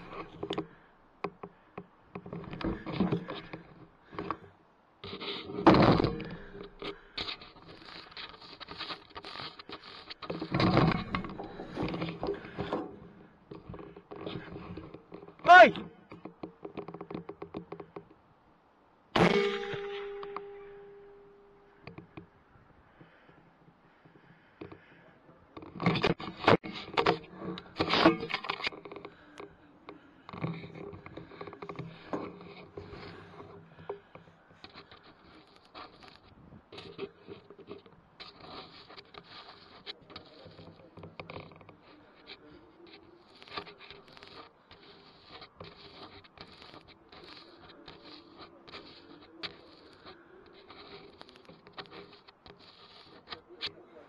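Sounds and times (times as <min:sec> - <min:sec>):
rustling: 0:00.0 - 0:54.0.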